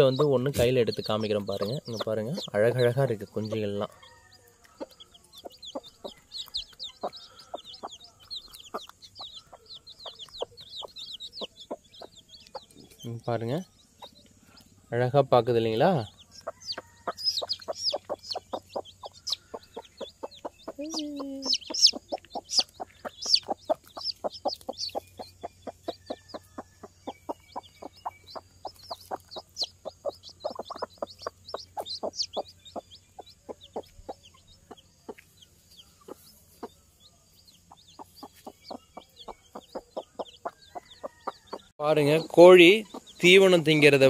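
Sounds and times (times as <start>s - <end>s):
hen clucking: 0.0s - 14.3s, 15.6s - 44.0s
chicks peeping: 0.0s - 44.0s.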